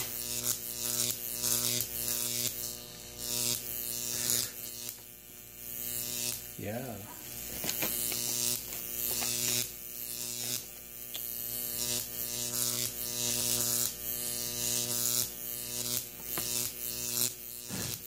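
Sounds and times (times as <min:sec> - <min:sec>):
electric arc buzzing: 0:00.0 - 0:18.0.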